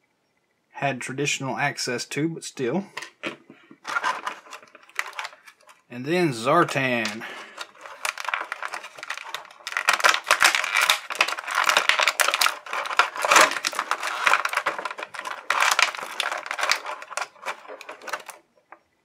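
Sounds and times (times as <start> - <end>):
plastic blister crinkling: 3.4 - 18.8.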